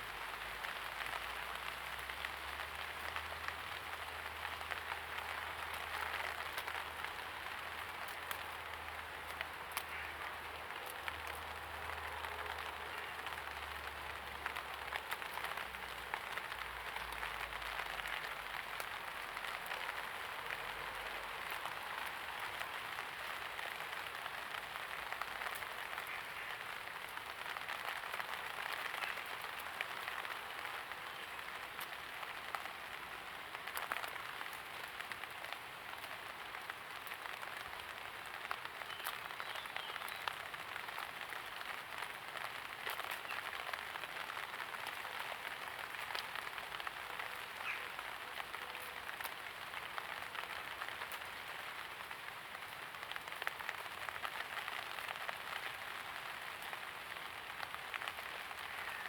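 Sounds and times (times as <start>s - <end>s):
light rain on hard surfaces: 0.0s - 59.0s.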